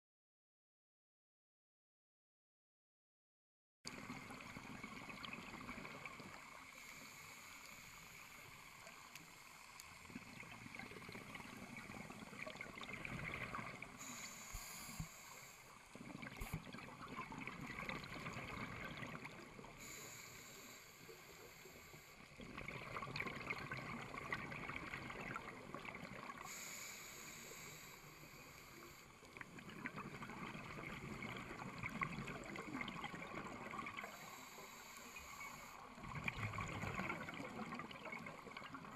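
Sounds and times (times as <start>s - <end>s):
underwater bubbles gurgling: 3.9s - 38.9s.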